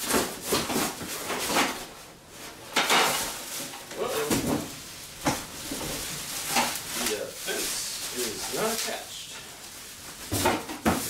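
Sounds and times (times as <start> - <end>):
plastic wrap rustling and crinkling: 0.0 - 11.0.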